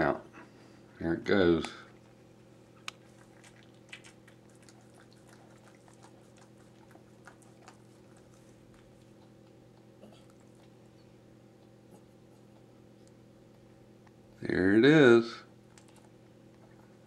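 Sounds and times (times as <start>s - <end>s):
steady low hum: 0.0s - 17.0s
wet clicks and smacks of nursing puppies: 1.5s - 14.4s, 15.5s - 17.0s.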